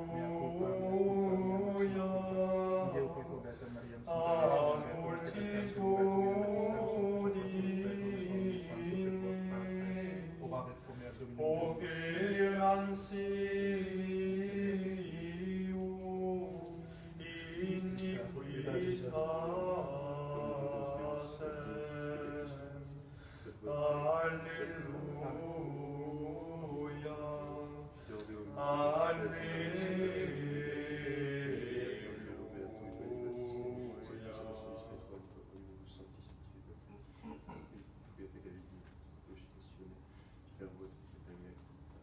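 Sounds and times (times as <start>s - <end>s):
male voices chanting: 0.0s - 35.8s.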